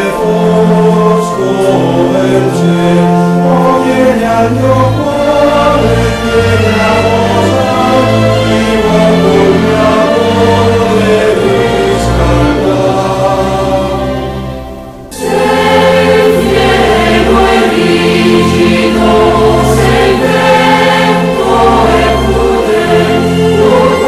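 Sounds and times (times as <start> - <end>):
choir singing slow sacred song: 0.0 - 24.0.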